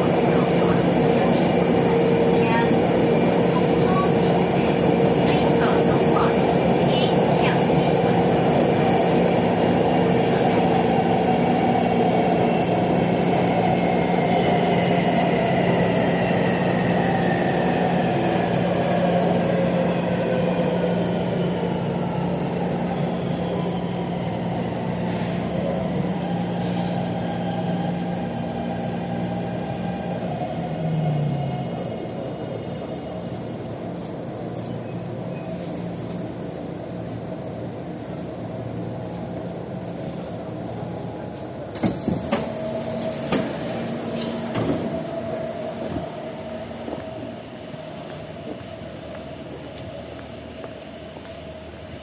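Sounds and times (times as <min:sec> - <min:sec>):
metro train rumble: 0:00.0 - 0:52.0.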